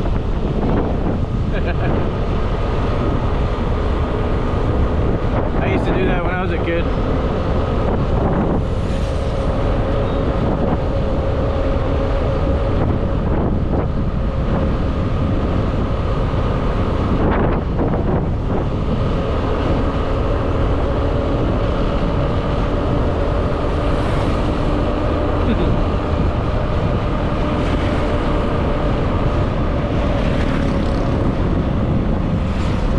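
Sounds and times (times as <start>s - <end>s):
wind rushing over microphone: 0.0s - 32.9s.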